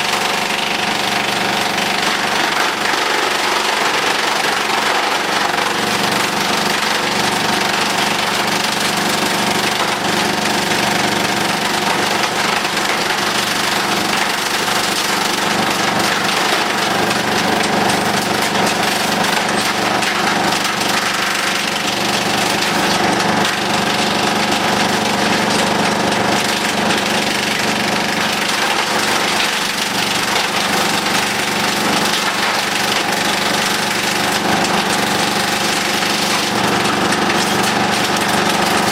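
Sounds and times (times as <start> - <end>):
wood chipper rattling: 0.0 - 38.9.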